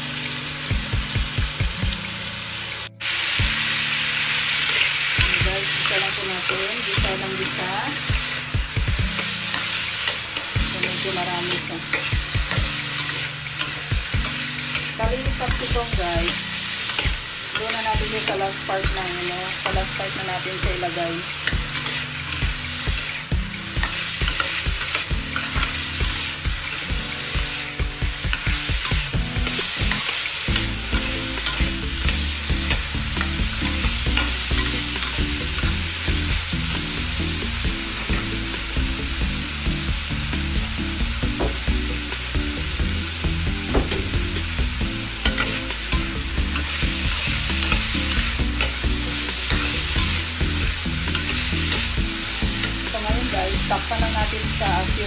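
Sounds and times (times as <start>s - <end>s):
vegetables sizzling in a wok: 0.0s - 55.0s.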